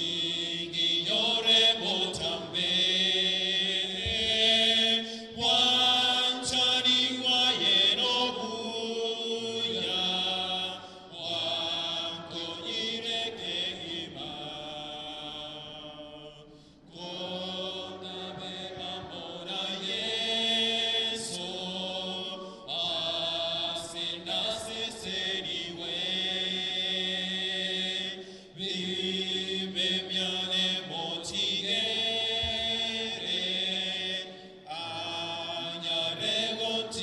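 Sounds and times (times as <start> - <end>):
men singing on microphones: 0.0 - 16.3, 17.0 - 37.0
congregation singing a hymn: 0.0 - 37.0.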